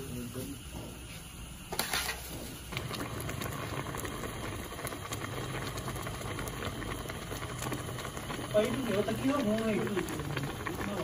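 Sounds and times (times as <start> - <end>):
pot bubbling: 0.0 - 11.0
rice splashing into pot: 1.7 - 11.0.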